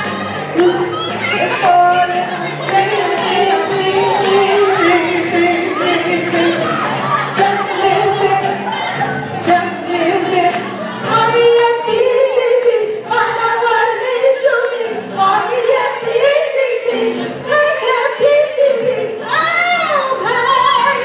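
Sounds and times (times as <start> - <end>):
women singing with vibrato: 0.0 - 21.0.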